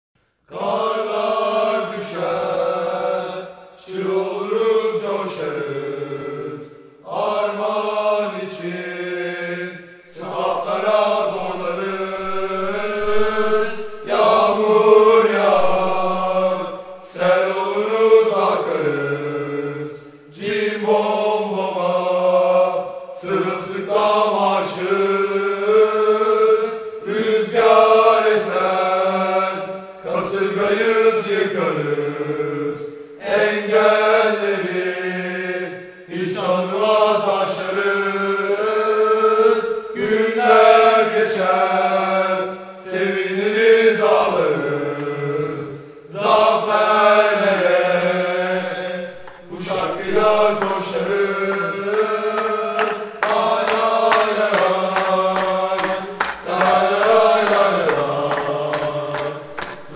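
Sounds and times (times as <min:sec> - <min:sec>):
football supporters chanting: 0:00.5 - 0:59.9.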